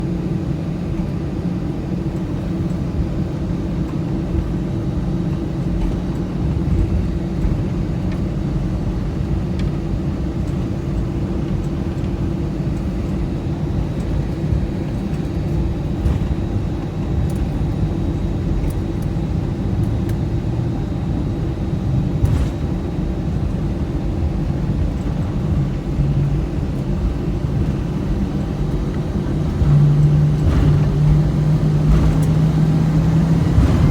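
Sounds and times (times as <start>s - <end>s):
airplane cabin engine rumble: 0.0s - 33.9s.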